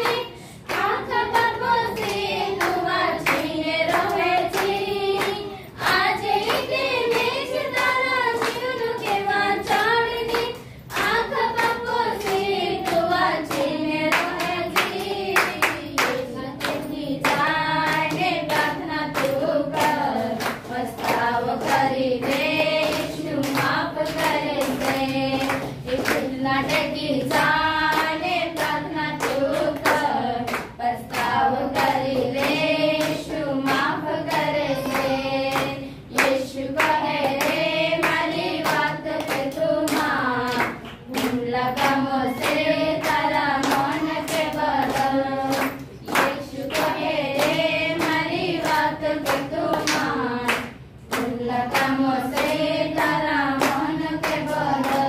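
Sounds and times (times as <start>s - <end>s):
rhythmic hand-clapping: 0.0s - 55.0s
women singing a devotional song: 0.0s - 55.0s.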